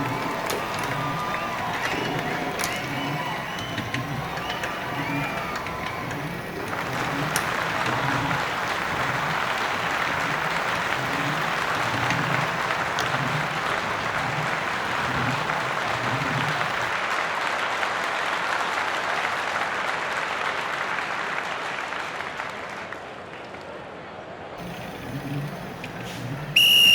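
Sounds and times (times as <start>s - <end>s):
crowd applauding: 0.0s - 24.0s, 24.6s - 26.9s.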